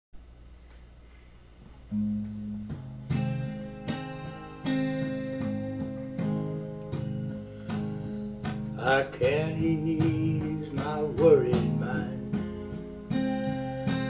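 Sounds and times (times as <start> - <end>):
acoustic guitar chords ringing: 1.7 - 14.0.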